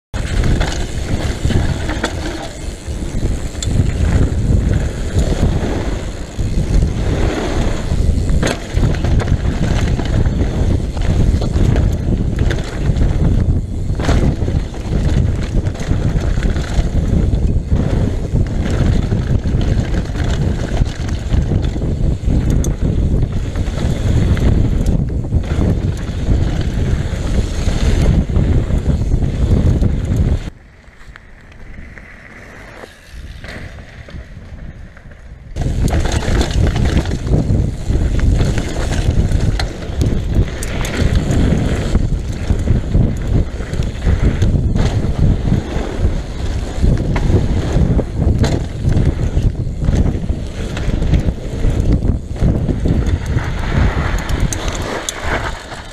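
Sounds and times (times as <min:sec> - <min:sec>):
wind buffeting microphone: 0:00.1 - 0:30.6, 0:31.6 - 0:55.9
bike rattling with sharp knocks: 0:00.2 - 0:30.5, 0:32.7 - 0:55.9.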